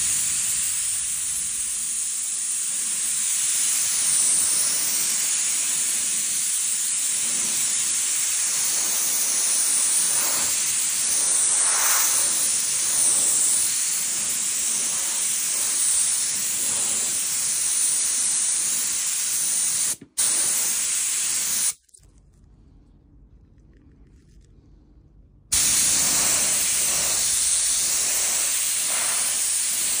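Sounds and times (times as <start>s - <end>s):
paint spray gun hissing: 0.0s - 21.8s, 25.5s - 30.0s.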